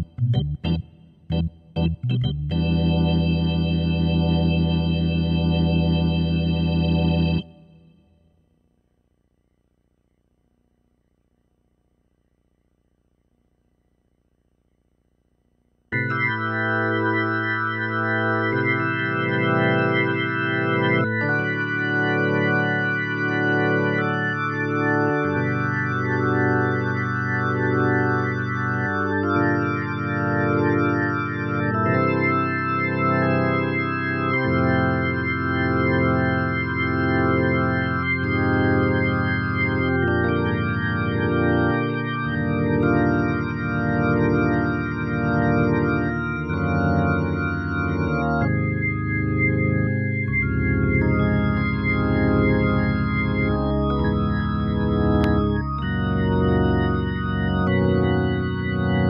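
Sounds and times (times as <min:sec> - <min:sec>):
organ chords on keyboard: 0:00.0 - 0:10.3, 0:15.7 - 0:59.0.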